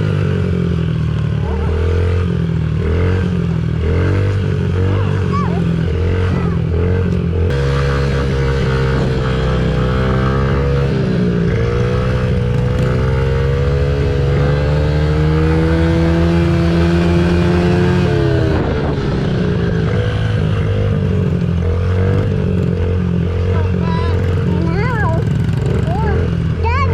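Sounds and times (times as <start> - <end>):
dirt bike engine under throttle: 0.0 - 26.9.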